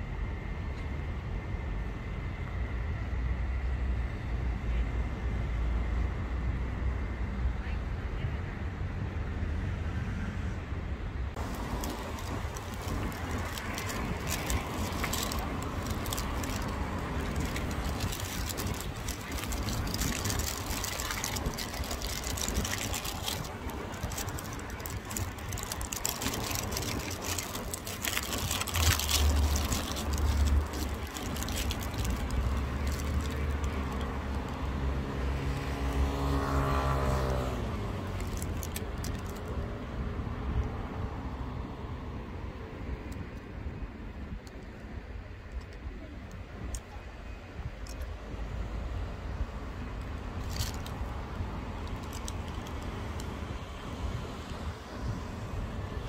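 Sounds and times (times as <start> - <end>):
traffic noise: 0.0 - 56.0.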